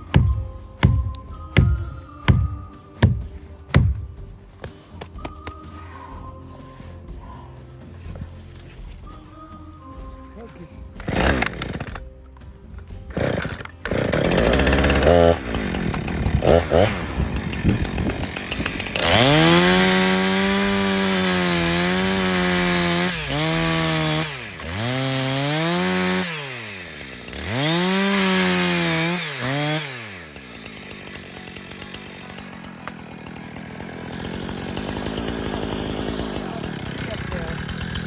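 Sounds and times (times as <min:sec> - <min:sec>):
chainsaw cutting into tree: 0:00.0 - 0:05.6, 0:10.9 - 0:12.2, 0:12.9 - 0:38.0.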